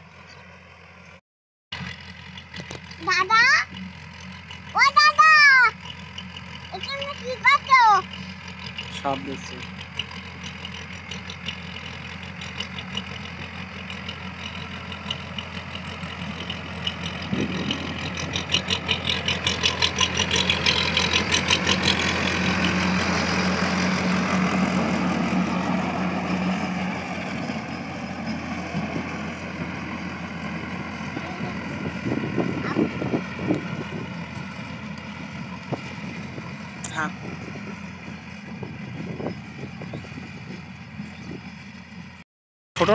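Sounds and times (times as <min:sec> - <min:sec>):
tractor diesel engine under load: 0:00.0 - 0:42.2.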